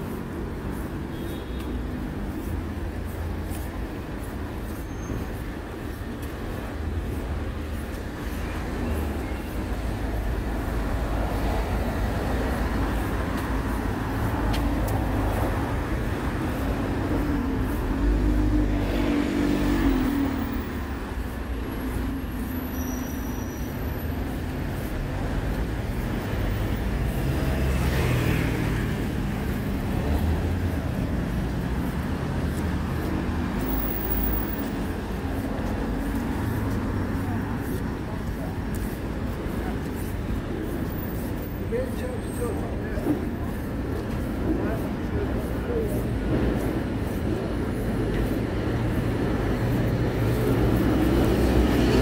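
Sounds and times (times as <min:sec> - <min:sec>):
road traffic rumble: 0:00.0 - 0:52.0
vehicles passing loudly: 0:00.0 - 0:52.0.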